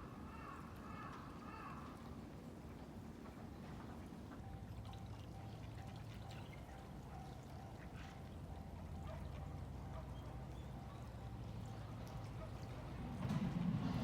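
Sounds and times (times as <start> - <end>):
river water trickling: 0.2 - 13.2.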